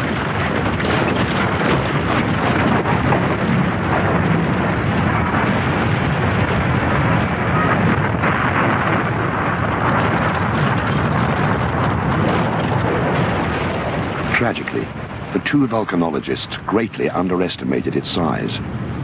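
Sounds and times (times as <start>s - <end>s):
rumble of pyroclastic flow: 0.0s - 19.0s.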